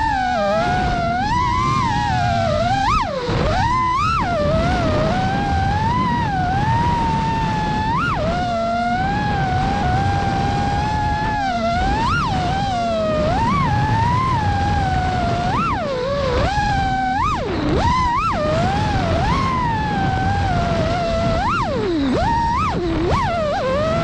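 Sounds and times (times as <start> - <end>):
drone motors whining: 0.0 - 24.0
wind and prop wash rumble: 0.0 - 24.0.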